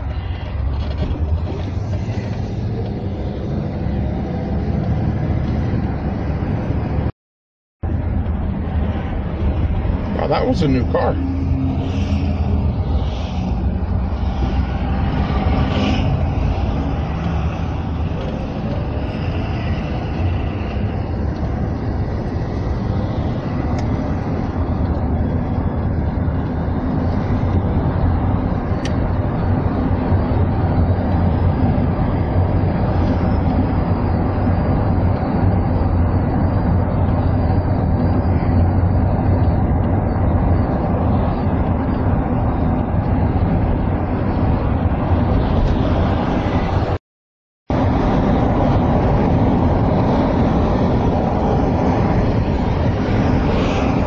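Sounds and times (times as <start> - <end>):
vehicle engine and tyre rumble: 0.0 - 7.1, 7.8 - 47.0, 47.7 - 54.0.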